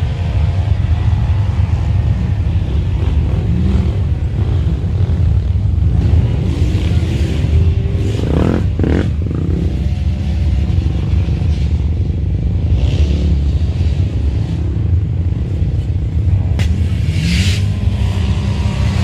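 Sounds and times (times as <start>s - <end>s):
vehicle engines revving: 0.0s - 19.0s.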